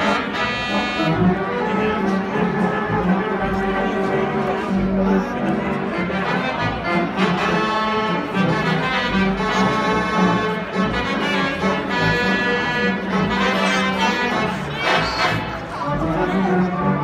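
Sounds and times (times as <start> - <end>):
theatre pipe organ chords: 0.0 - 17.0.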